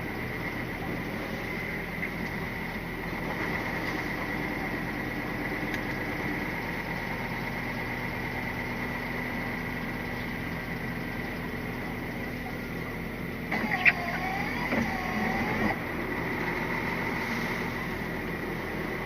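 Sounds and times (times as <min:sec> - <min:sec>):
diesel lorry engine idling: 0:00.0 - 0:19.0
steady high whine: 0:00.0 - 0:19.0.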